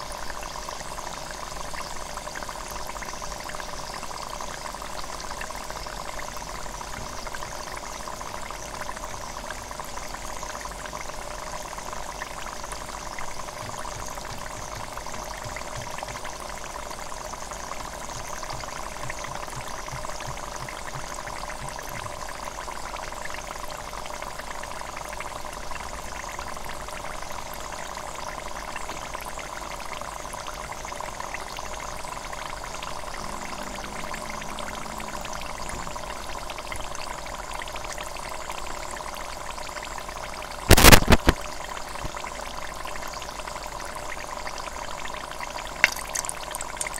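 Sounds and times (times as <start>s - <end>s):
hot oil sizzling in a deep fryer: 0.0s - 46.9s.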